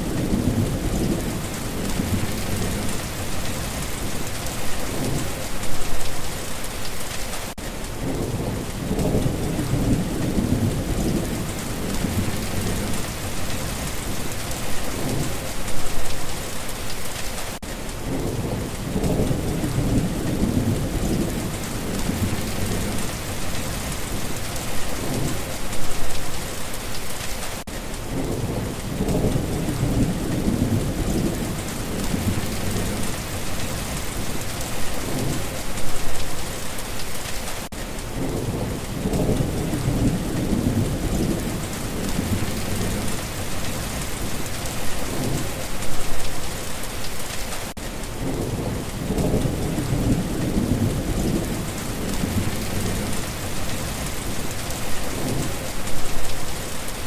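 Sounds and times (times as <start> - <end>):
low thunder rumbling: 0.0 - 5.6, 8.0 - 16.2, 18.0 - 26.1, 28.1 - 36.2, 38.1 - 46.2, 48.2 - 56.6
steady rain falling: 0.0 - 57.0.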